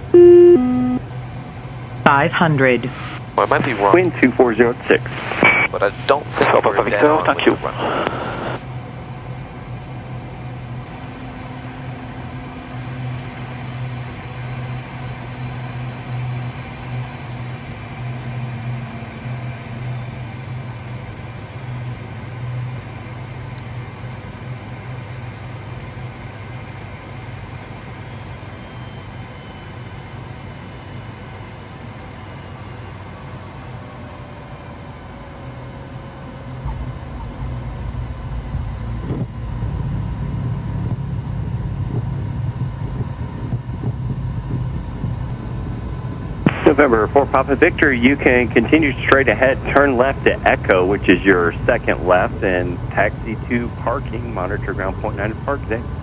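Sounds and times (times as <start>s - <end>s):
faint steady tones: 0.0s - 55.9s
jet cockpit hum: 0.0s - 56.0s
turbofan engine noise: 0.0s - 56.0s.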